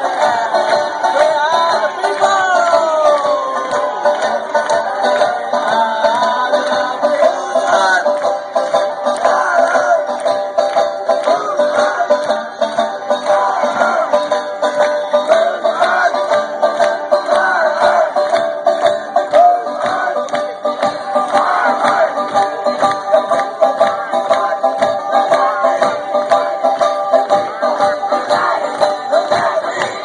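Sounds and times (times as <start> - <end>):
crowd clapping along: 0.0 - 30.0
group of voices singing: 0.0 - 30.0
strummed string instrument: 0.0 - 30.0.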